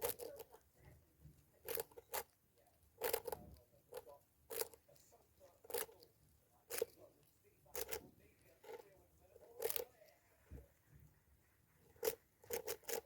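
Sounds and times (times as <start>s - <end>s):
rat crunching a hard snack: 0.0s - 11.1s, 11.7s - 13.0s.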